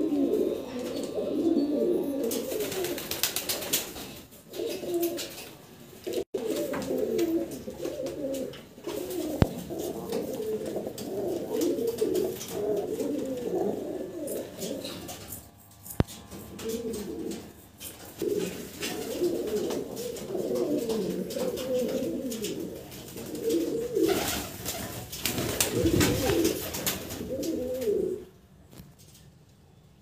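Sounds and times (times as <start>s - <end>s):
pigeons cooing: 0.0s - 28.3s.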